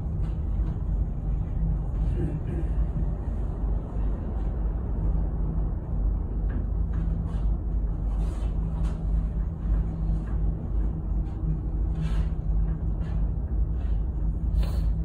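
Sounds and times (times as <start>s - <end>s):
cable car low rumble: 0.0s - 15.0s
faint hum: 0.0s - 15.0s.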